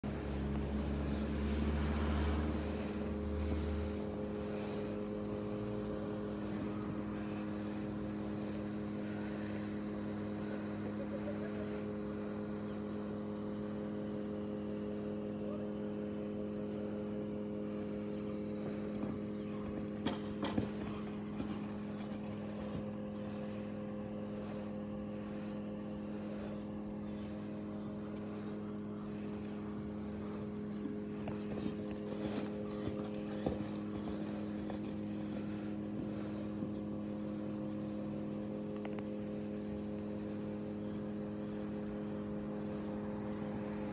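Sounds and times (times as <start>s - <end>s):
motor humming: 0.0s - 43.9s.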